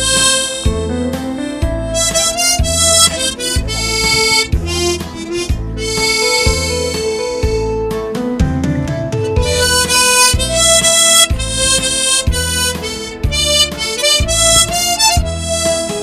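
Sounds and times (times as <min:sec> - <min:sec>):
harmonica melody: 0:00.0 - 0:08.0, 0:09.4 - 0:16.0
backing track bass notes: 0:00.0 - 0:16.0.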